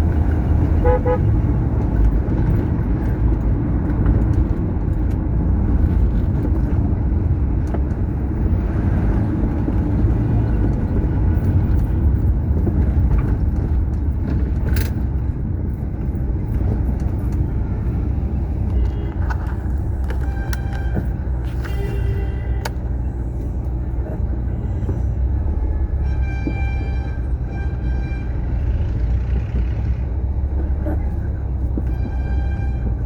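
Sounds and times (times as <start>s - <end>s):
car driving on highway: 0.0s - 33.0s.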